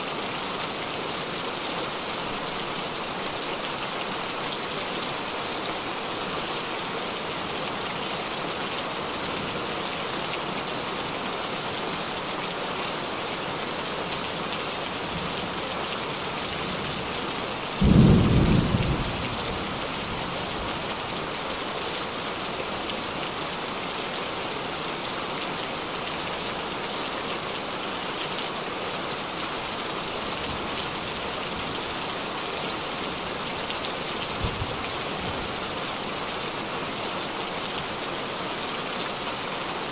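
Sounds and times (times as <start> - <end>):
heavy rain on water and grass: 0.0 - 39.9.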